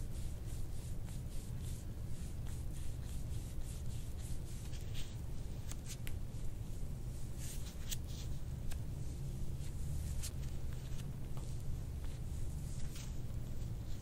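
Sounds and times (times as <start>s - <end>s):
hands rubbing skin and clothing: 0.0s - 14.0s
low room hum: 0.0s - 14.0s.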